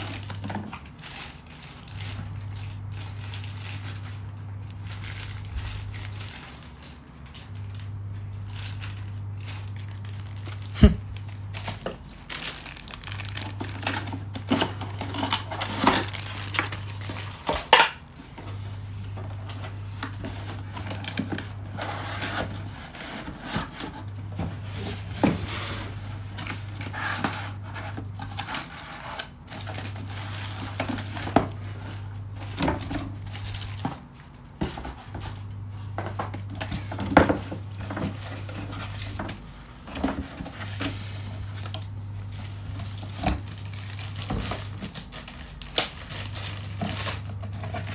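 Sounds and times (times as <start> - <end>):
plastic wrap crinkling: 0.0 - 47.9
steady low hum: 0.0 - 47.9.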